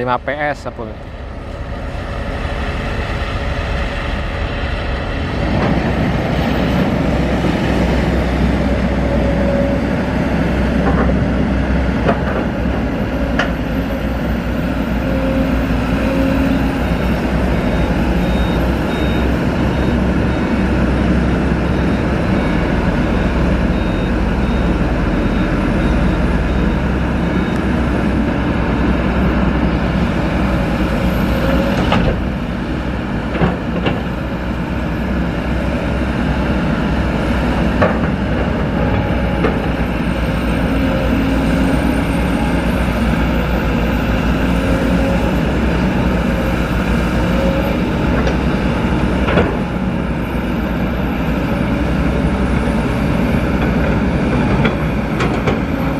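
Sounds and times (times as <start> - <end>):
diesel engines running: 0.0 - 55.9.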